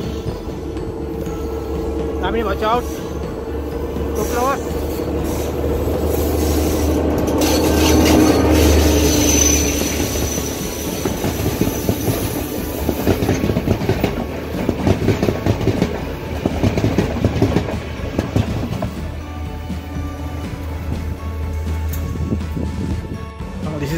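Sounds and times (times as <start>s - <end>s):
train wheels clattering on rails: 0.0s - 19.2s
diesel train engine drone: 0.0s - 23.9s.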